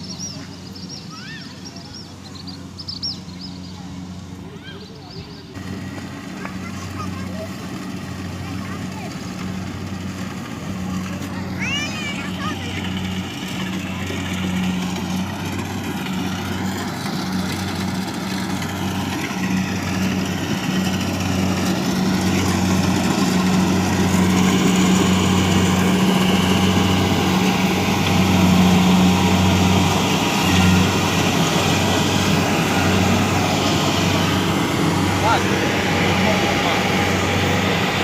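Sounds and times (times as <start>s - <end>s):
heavy engine humming: 0.0s - 38.0s.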